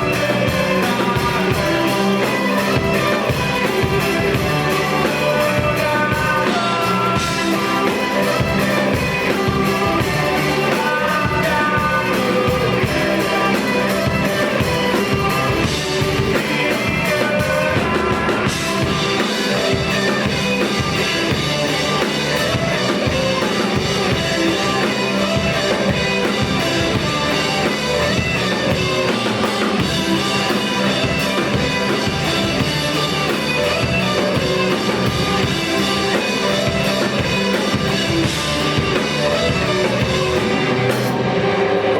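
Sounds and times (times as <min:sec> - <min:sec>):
person singing: 0:00.0 - 0:41.9
rock band playing: 0:00.0 - 0:41.9.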